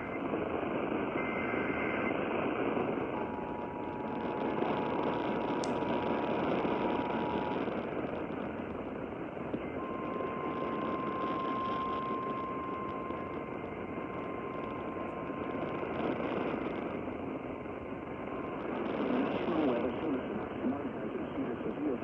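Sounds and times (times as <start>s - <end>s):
radio static and hiss: 0.0s - 22.0s.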